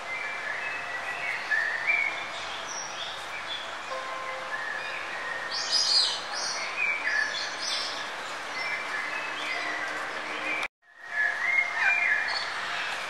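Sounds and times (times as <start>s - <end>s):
birds chirping and singing: 0.0s - 13.0s.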